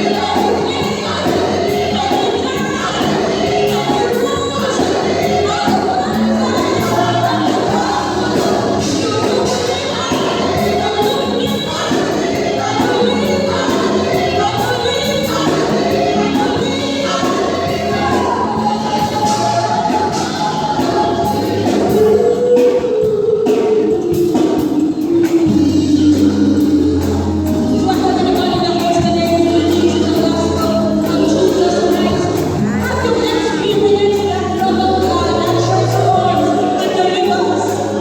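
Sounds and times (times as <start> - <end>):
choir singing with accompaniment: 0.0 - 38.0.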